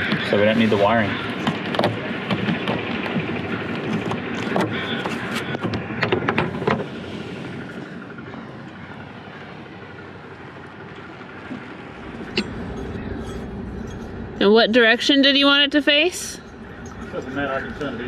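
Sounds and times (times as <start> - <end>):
rushing background noise: 0.0 - 18.0.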